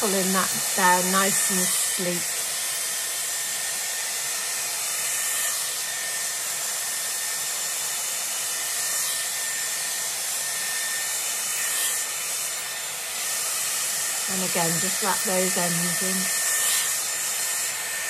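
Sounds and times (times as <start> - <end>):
hair styler air rush and motor whine: 0.0 - 18.0.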